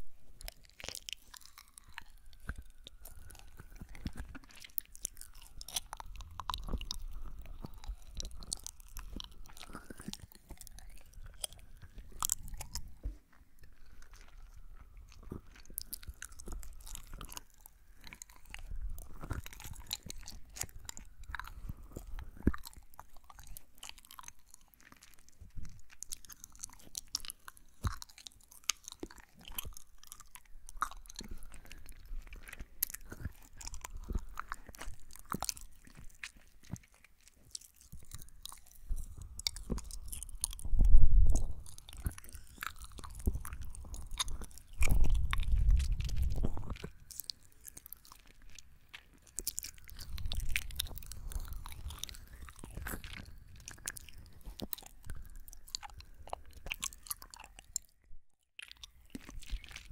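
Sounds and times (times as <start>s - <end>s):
chewing jelly candy: 0.0s - 59.9s.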